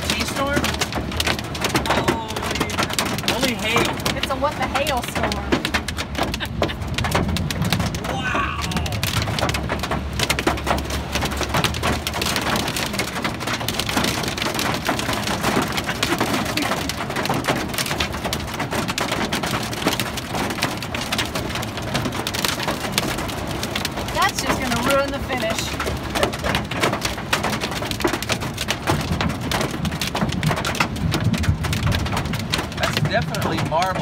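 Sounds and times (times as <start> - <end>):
hail pelting a car roof: 0.0 - 34.0.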